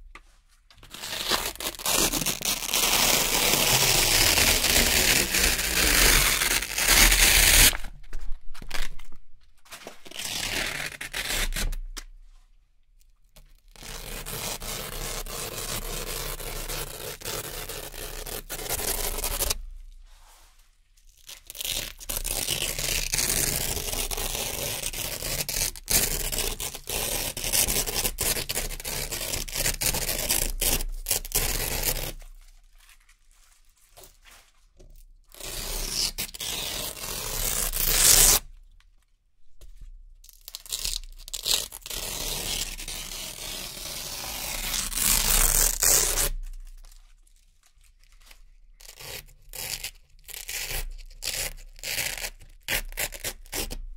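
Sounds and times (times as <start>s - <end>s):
velcro ripping: 0.8s - 8.0s, 9.7s - 11.8s, 13.7s - 19.6s, 21.1s - 34.5s, 35.3s - 38.5s, 40.3s - 47.0s, 48.2s - 53.9s.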